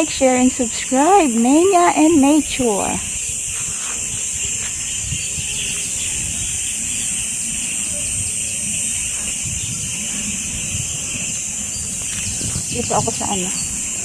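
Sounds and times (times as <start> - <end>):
steady high hiss: 0.0 - 14.0
wind rumbling on microphone: 0.0 - 14.0.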